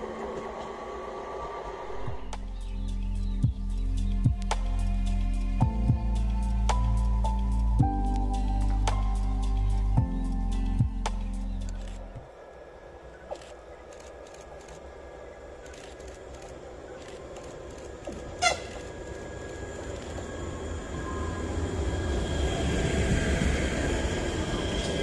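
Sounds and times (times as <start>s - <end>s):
electric train whine: 0.0s - 25.0s.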